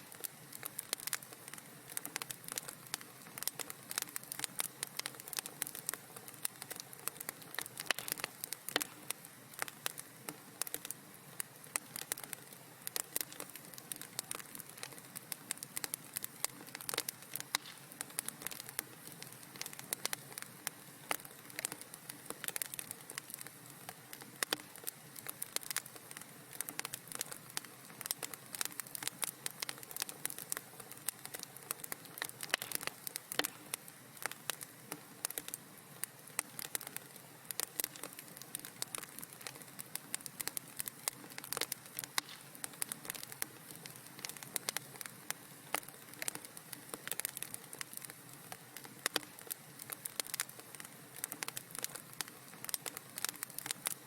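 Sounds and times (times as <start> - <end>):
soft steady hiss: 0.0 - 54.0
wood fire crackling: 0.0 - 54.0.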